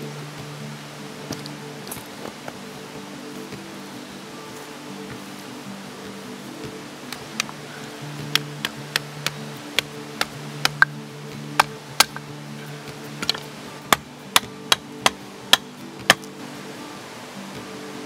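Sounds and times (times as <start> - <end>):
music of long held notes: 0.0 - 18.0.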